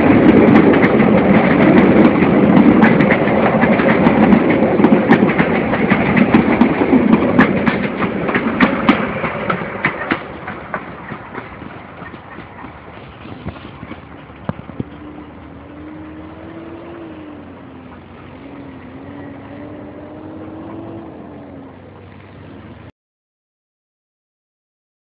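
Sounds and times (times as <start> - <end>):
train wheels clacking on rails: 0.0 - 21.8.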